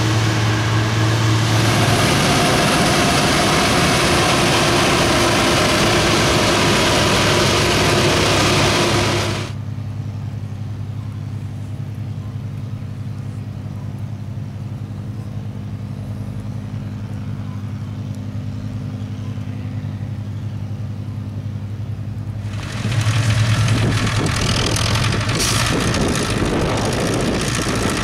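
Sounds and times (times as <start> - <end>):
combine harvester working: 0.0 - 28.0
low engine hum: 0.0 - 28.0.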